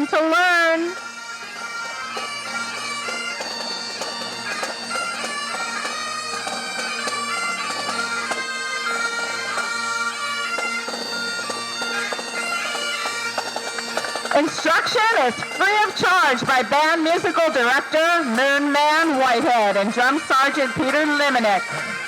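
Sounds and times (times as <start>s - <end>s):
bagpipe drones: 0.0s - 22.0s
bagpipes playing a tune: 0.0s - 22.0s.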